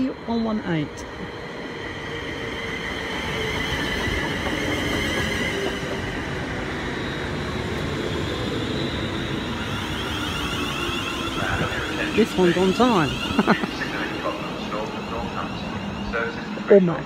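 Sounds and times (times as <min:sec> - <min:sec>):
train wheels rumbling on rails: 0:00.0 - 0:17.0
electric train motor whine: 0:00.4 - 0:16.7.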